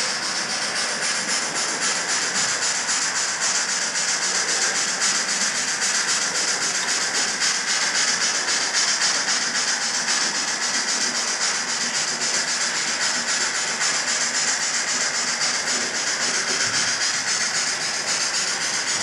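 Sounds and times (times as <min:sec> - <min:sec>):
steam locomotive exhaust chuffs: 0:00.0 - 0:19.0.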